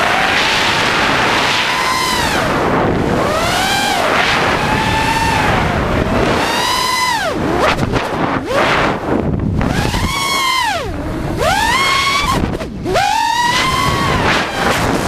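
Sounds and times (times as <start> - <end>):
quadcopter motors whining: 0.0 - 15.0
wind rushing over microphone: 0.0 - 15.0.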